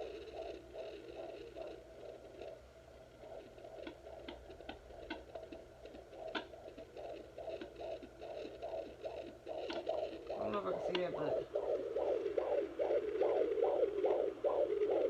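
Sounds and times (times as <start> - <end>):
muffled doppler whooshing pulses: 0.0 - 15.0
scratchy clicks: 0.0 - 15.0.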